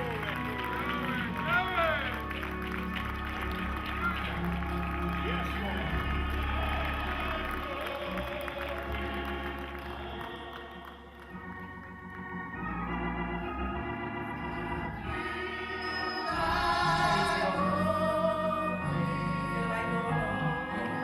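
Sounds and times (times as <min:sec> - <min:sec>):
church organ playing chords: 0:00.0 - 0:21.0.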